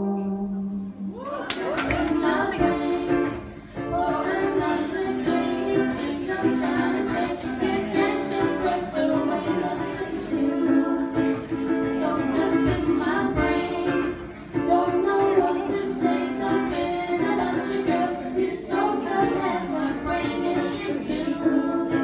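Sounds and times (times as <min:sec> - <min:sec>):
person singing: 0:00.0 - 0:22.0
ukuleles strummed: 0:01.0 - 0:22.0.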